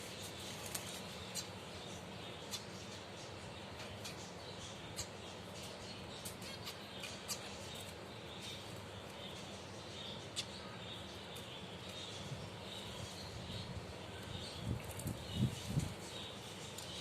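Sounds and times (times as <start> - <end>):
finches chirping: 0.0 - 17.0.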